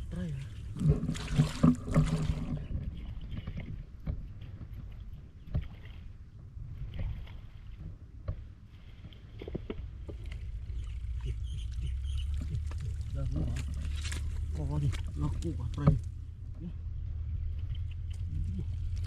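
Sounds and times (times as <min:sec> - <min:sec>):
steady low rumble: 0:00.0 - 0:19.0
water sloshing and splashing: 0:00.0 - 0:19.0.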